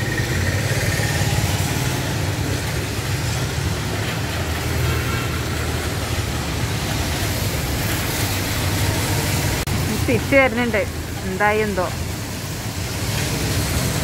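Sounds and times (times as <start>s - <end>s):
rain on a wet street: 0.0s - 14.0s
traffic rumble: 0.0s - 14.0s.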